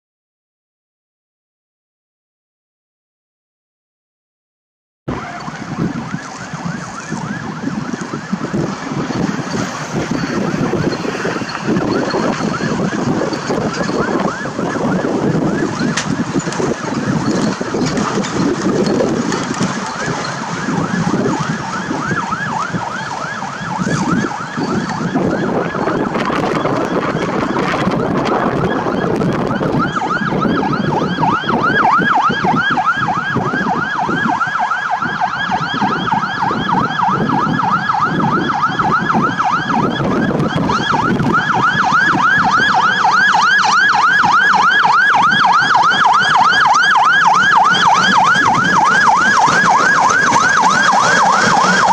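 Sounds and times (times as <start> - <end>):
fire truck siren yelping: 5.1 - 51.9
truck engine and road noise: 5.1 - 51.9.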